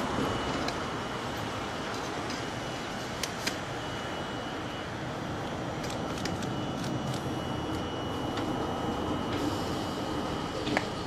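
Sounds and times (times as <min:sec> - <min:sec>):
electric train rolling: 0:00.0 - 0:11.0.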